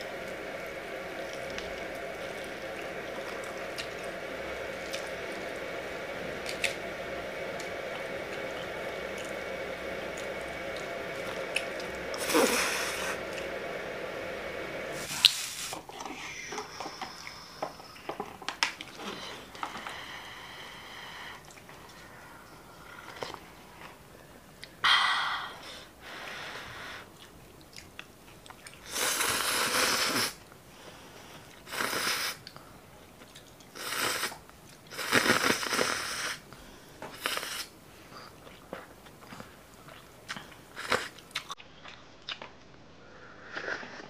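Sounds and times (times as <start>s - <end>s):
steady room hum: 0.0s - 43.7s.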